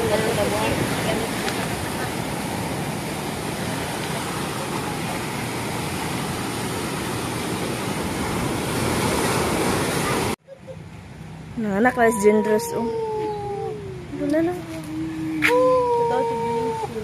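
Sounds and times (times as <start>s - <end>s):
vehicle road and wind noise: 0.0s - 17.0s.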